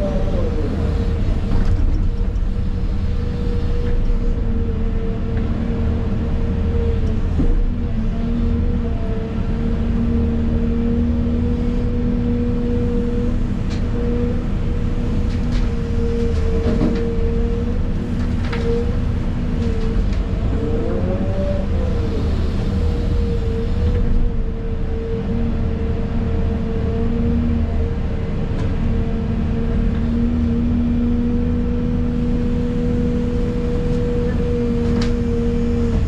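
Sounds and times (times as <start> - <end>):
excavator engine rumbling: 0.0 - 36.0.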